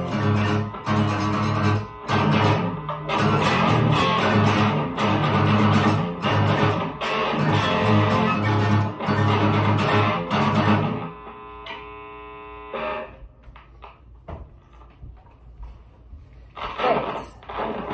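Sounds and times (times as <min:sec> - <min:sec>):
guitars strumming chords: 0:00.0 - 0:13.9, 0:16.6 - 0:17.9.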